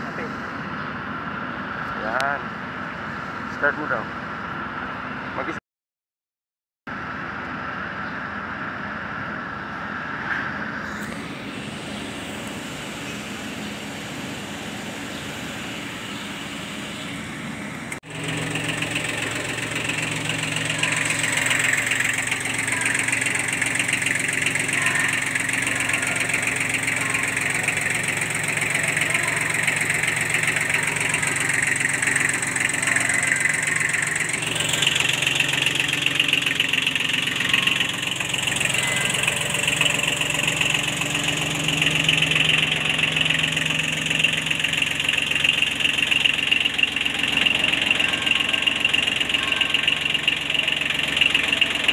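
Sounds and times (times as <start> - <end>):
tractor diesel engine idling: 0.0 - 5.6, 6.9 - 51.9.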